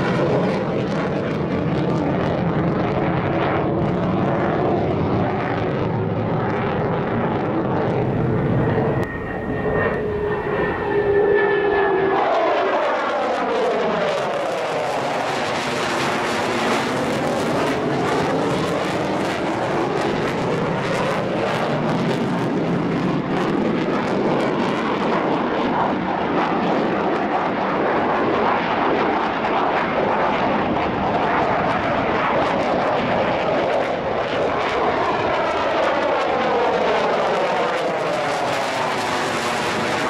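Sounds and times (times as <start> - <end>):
fighter jet flying overhead: 0.0 - 40.0.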